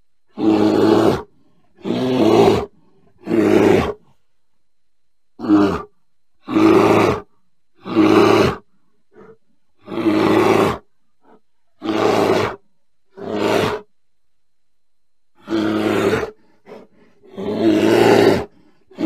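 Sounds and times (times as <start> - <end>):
bear calling: 0.3 - 4.0, 5.4 - 13.9, 15.4 - 19.0.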